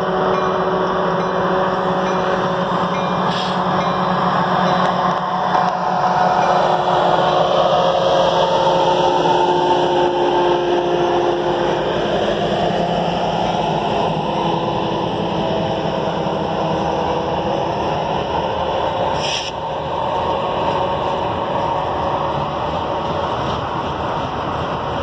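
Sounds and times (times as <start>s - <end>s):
diesel locomotive hum: 0.0s - 25.0s
train wheels rumbling on rails: 0.0s - 25.0s.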